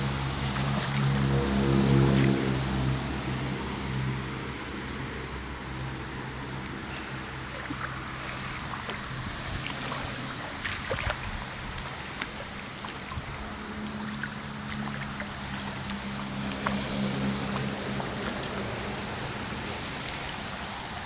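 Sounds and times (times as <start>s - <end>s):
low steady hum: 0.0s - 21.0s
rainwater running and splashing: 0.0s - 21.0s.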